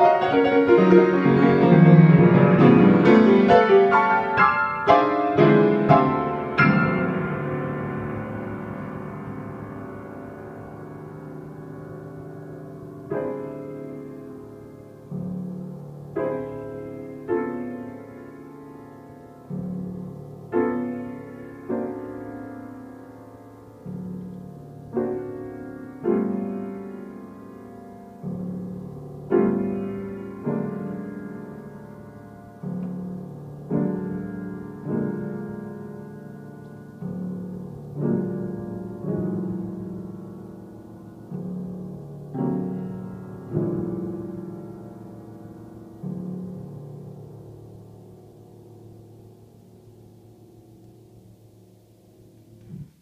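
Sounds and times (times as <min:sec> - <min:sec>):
low piano bass notes: 0:00.0 - 0:53.0
soft grand piano chords: 0:00.0 - 0:53.0.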